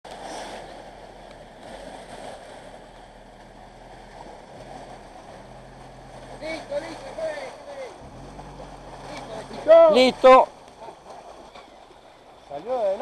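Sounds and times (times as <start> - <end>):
low engine hum: 0.1 - 13.0
shallow water sloshing: 0.1 - 13.0.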